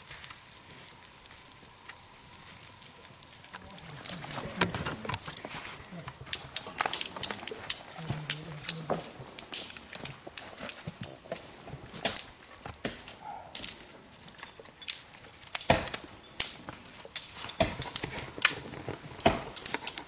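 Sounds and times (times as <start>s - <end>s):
flint and steel scraping strikes: 3.5s - 20.0s.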